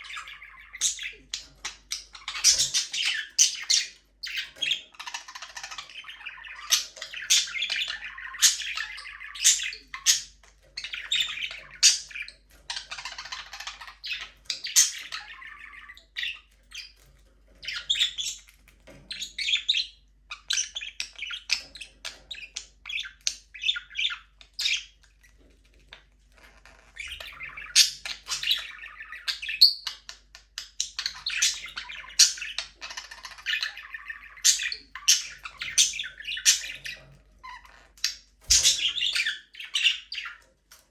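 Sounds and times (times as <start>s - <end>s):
parakeets chirping and chattering: 0.0s - 40.9s.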